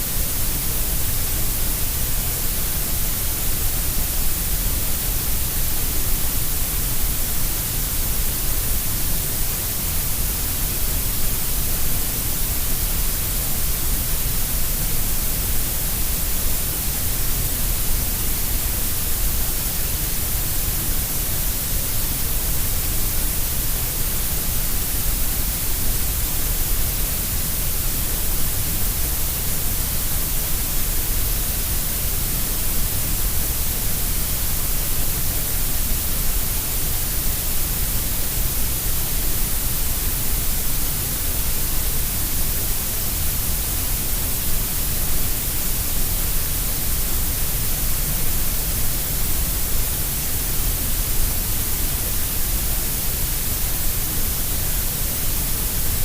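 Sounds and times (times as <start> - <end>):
steady grey noise hiss: 0.0 - 56.0.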